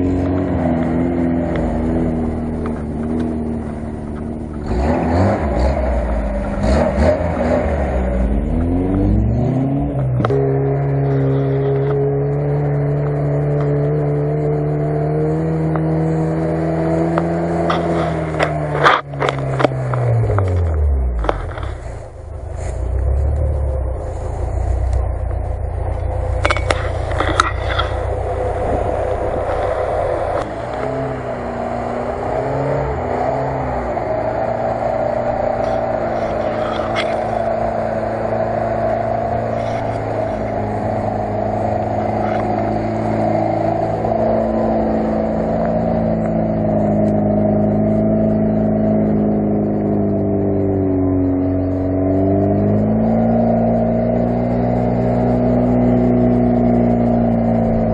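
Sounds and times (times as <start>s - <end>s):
car engine labouring: 0.0s - 57.9s.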